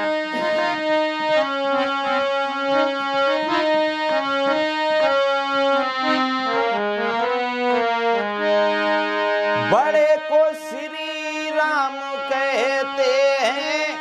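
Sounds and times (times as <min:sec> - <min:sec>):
harmonium melody: 0:00.0 - 0:14.0.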